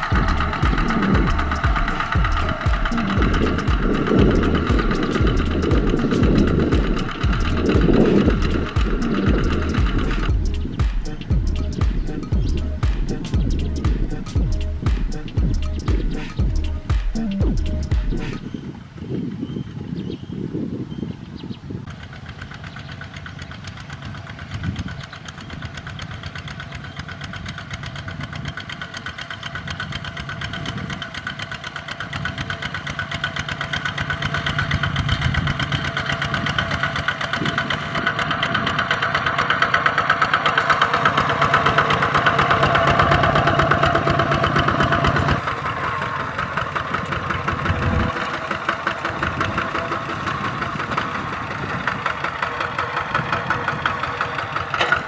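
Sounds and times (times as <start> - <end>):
diesel tractor engine under load: 0.0 - 55.0.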